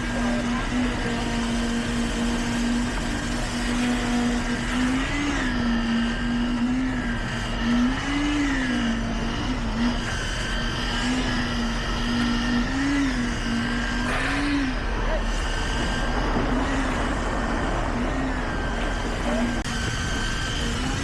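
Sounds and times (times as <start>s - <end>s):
heavy machinery engine revving: 0.0s - 21.0s.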